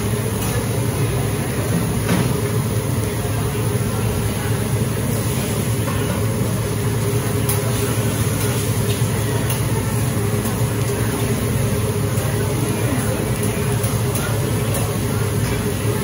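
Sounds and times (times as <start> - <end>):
griddle sizzling: 0.0 - 16.0.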